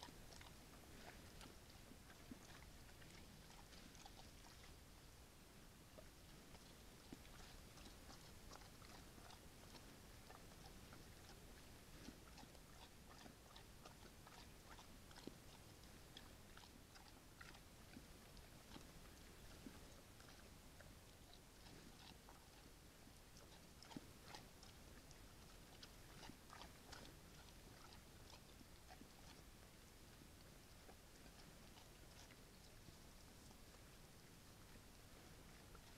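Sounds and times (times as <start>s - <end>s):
bear chewing and crunching food: 0.0s - 35.9s
steady background hiss: 0.0s - 35.9s.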